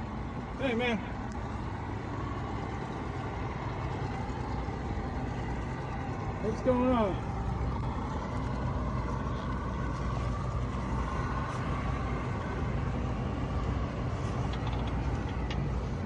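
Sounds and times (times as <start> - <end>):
boat diesel engine droning: 0.0 - 16.0.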